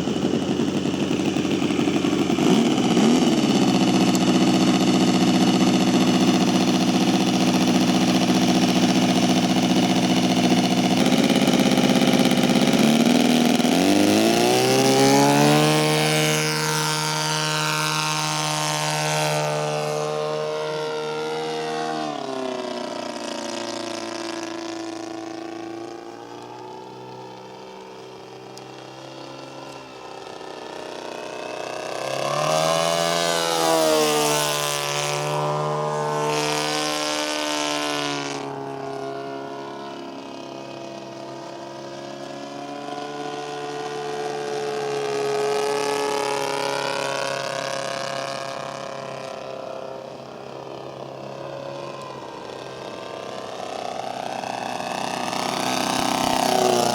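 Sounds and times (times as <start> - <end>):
model plane engine in flight: 0.0 - 56.9.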